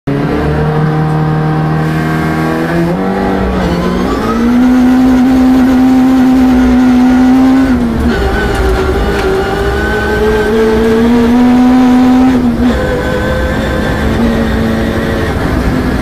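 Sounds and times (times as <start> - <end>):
rally car engine revving: 0.1 - 16.0.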